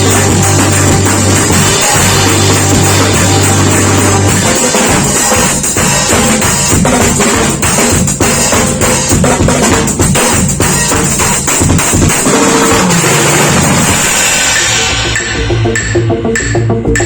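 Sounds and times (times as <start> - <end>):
fast drum kit playing: 0.0 - 17.0.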